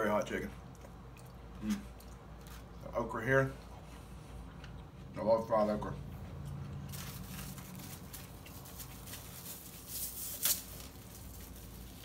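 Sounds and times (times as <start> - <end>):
crunching and chewing food: 0.0 - 12.0.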